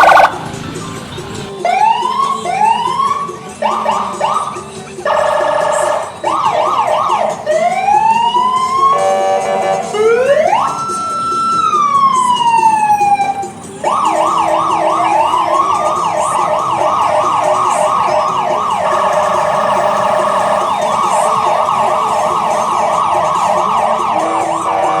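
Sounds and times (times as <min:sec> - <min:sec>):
emergency siren wailing and yelping: 0:00.0 - 0:00.4, 0:01.6 - 0:25.0.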